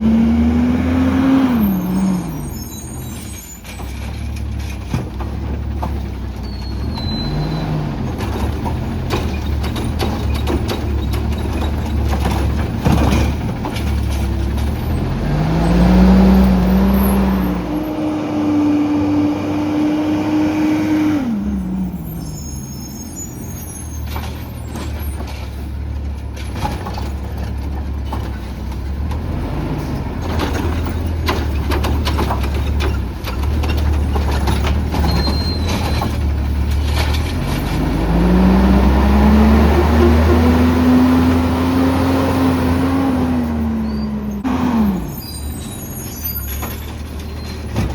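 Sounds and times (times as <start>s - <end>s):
garbage truck engine revving: 0.0s - 47.9s.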